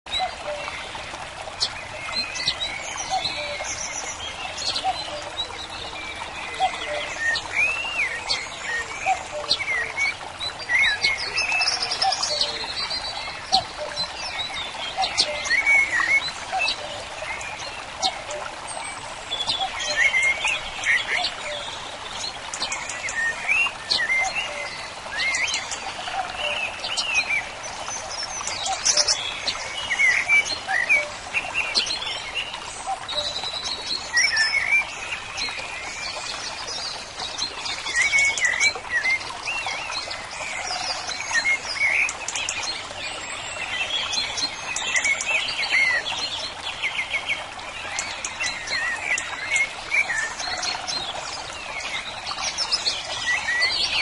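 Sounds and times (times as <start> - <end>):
songbirds chirping and singing: 0.1 - 54.0.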